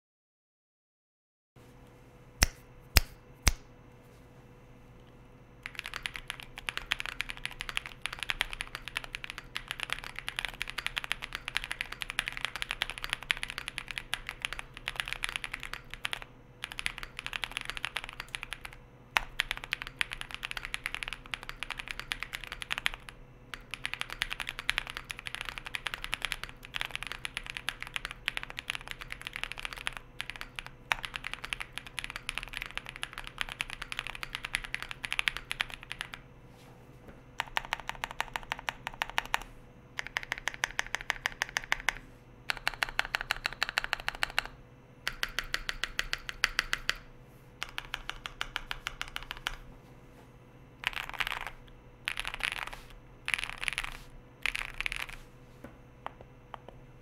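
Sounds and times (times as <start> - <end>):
mechanical keyboard typing: 5.6 - 36.2, 37.4 - 49.6, 50.8 - 55.2.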